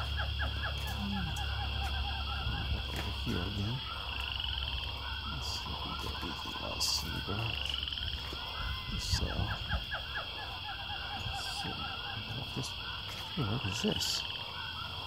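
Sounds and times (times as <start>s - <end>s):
animal chirps: 0.0s - 15.0s.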